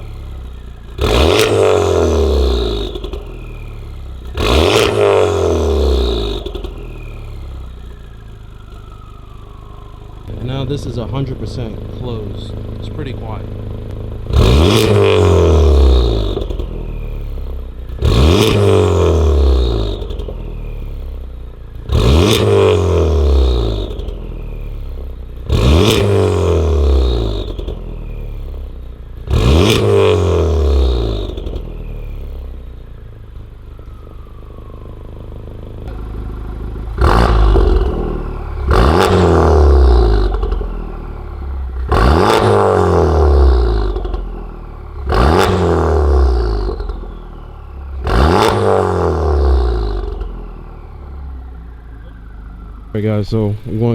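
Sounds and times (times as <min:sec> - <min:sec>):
car engine idling: 0:00.0 - 0:53.9
car engine revving: 0:00.0 - 0:53.9.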